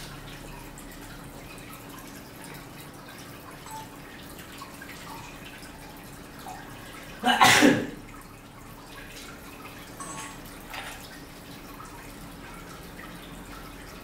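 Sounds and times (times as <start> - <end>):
water dripping and trickling: 0.0 - 14.0.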